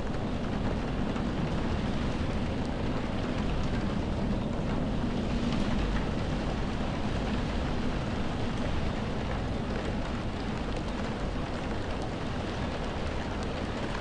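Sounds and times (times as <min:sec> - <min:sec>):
faint ticks of raindrops: 0:00.0 - 0:14.0
heavy rain on window glass: 0:00.0 - 0:14.0.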